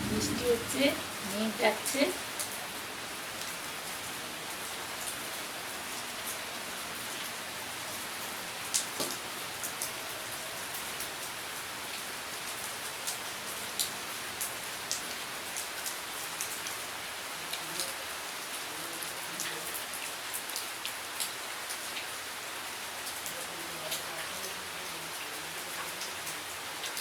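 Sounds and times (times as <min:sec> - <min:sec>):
steady rain hiss: 0:00.0 - 0:27.0.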